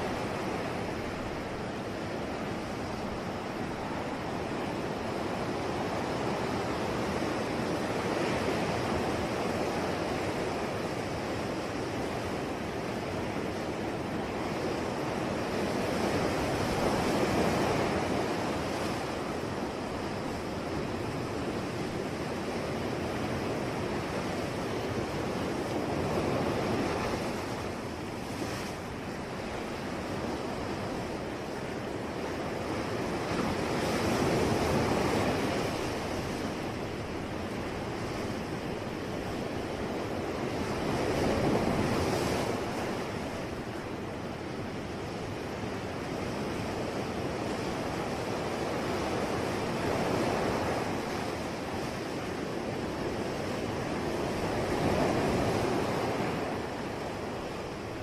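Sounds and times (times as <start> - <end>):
ocean waves breaking: 0.0 - 58.0
wind: 0.0 - 58.0.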